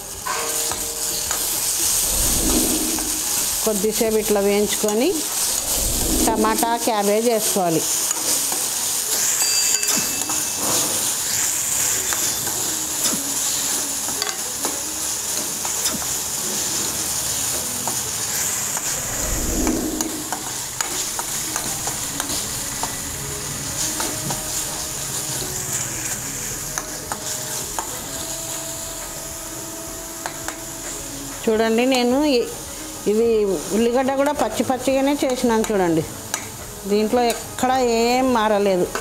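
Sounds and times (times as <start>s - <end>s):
onion sizzling in oil: 0.0s - 39.0s.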